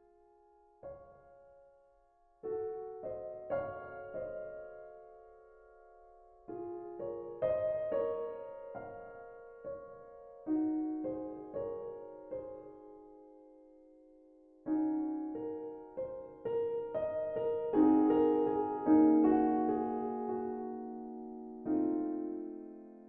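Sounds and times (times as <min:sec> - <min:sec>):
gentle piano chords: 0:00.0 - 0:23.0.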